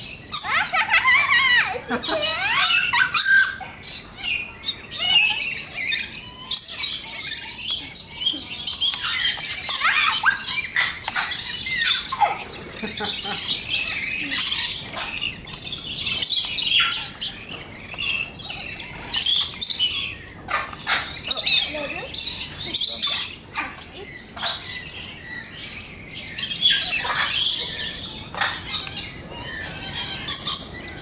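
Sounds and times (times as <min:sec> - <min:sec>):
parrots chattering and squawking: 0:00.0 - 0:31.0.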